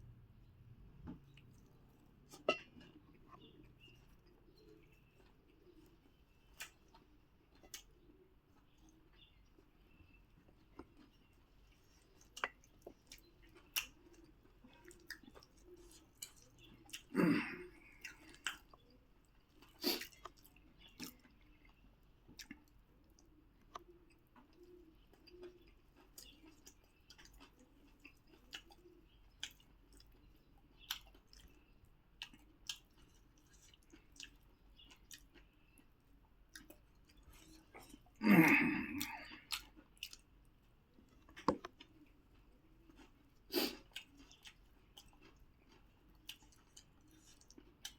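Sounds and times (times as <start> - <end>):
person chewing food: 1.0 - 47.9.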